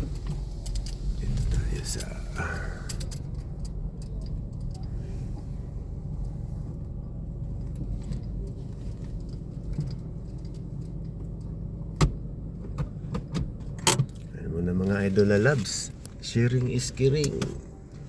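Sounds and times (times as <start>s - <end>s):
vehicle rumbling: 0.0s - 18.0s.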